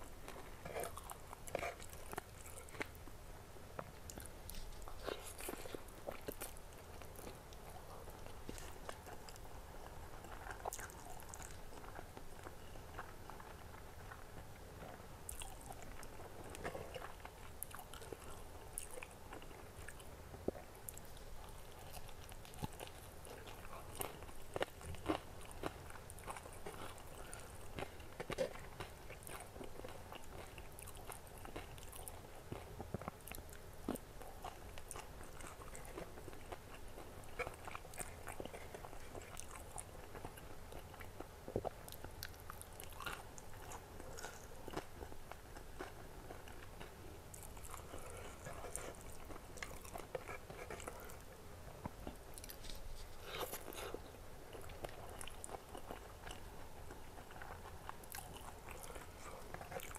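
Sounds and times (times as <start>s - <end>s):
crunchy chewing and biting: 0.2s - 3.0s, 3.8s - 59.9s.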